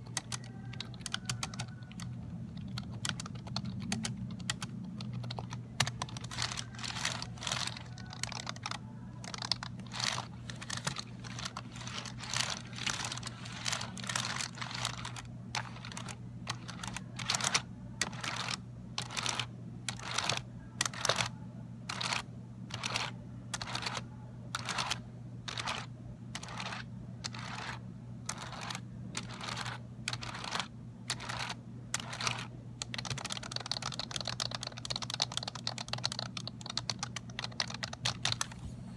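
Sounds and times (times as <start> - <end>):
fast keyboard typing: 0.0 - 21.3, 21.9 - 24.0, 24.6 - 38.6
steady low hum: 0.0 - 38.9.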